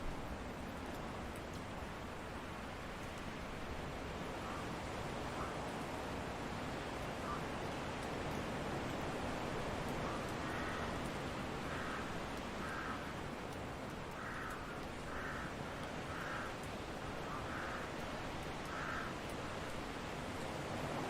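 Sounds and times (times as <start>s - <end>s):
steady wind: 0.0s - 21.0s.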